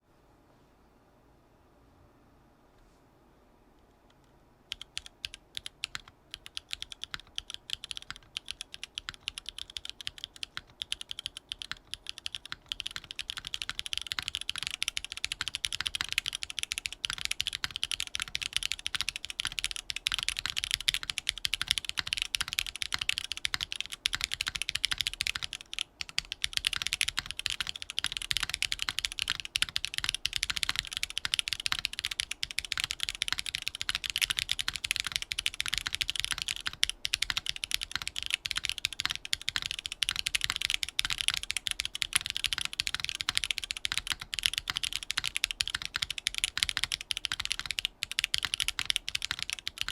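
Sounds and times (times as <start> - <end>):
typing on mechanical keyboard: 4.7 - 49.9.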